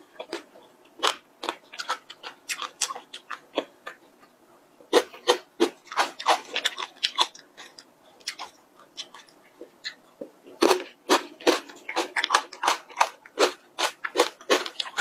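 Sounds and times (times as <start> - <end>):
crunchy chewing: 0.1 - 15.0.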